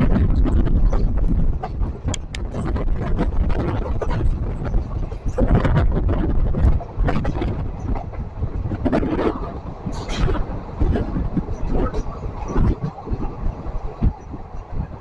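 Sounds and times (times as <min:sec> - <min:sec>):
clatter of train wheels: 0:00.0 - 0:15.0
train rumble: 0:00.0 - 0:15.0
wind rush: 0:00.0 - 0:15.0.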